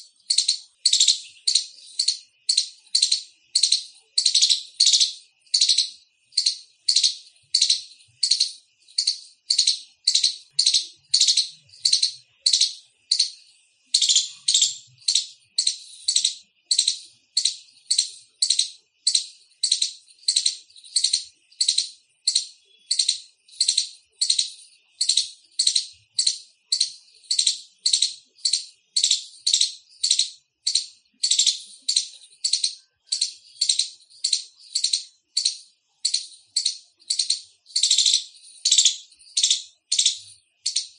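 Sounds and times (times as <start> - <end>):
squirrel chirping: 0.0 - 40.9.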